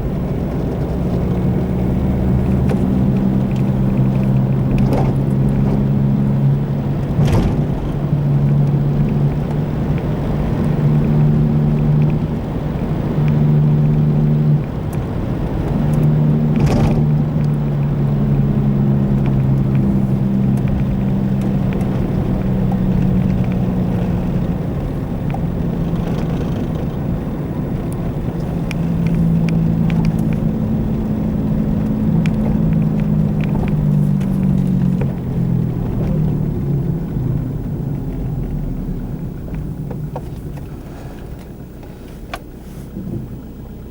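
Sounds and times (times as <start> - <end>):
car droning hum: 0.0 - 43.9
road noise: 0.0 - 43.9.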